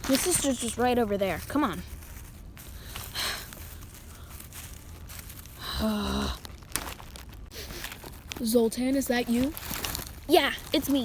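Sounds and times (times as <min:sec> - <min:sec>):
faint rustling: 0:00.0 - 0:11.0
low background rumble: 0:00.0 - 0:11.0.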